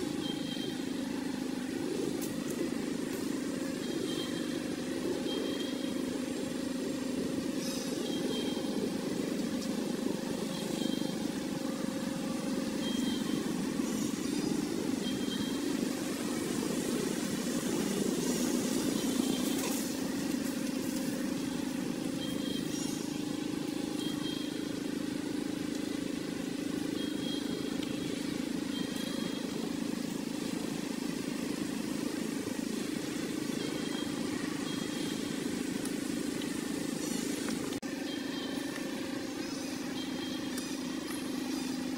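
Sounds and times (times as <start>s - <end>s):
low outdoor drone: 0.0s - 41.9s.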